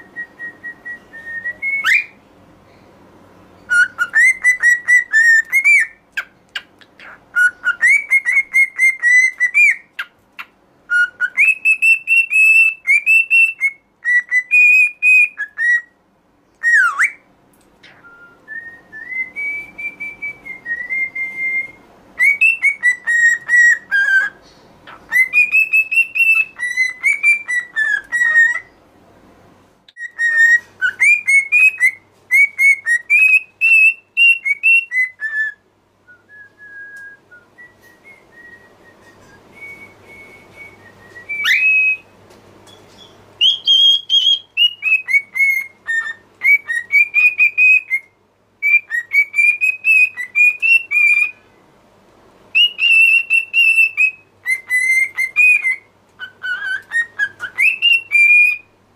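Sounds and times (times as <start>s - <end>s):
cockatiel whistling: 0.0s - 2.2s, 3.6s - 16.0s, 16.6s - 28.7s, 29.9s - 42.1s, 42.7s - 51.4s, 52.5s - 58.8s.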